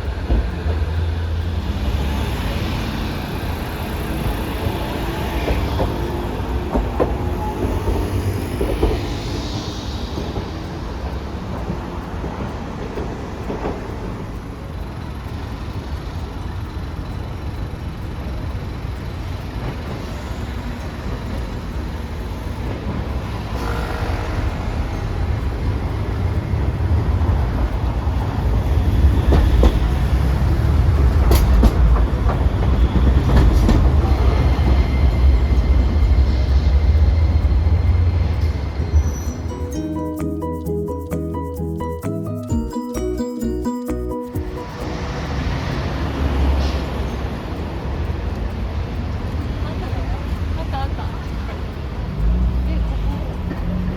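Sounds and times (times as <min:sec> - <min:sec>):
streetcar rumbling on track: 0:00.0 - 0:53.9.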